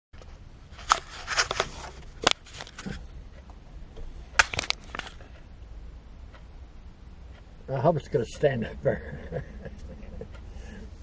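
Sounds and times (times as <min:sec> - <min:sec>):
low steady hum: 0:00.2 - 0:11.0.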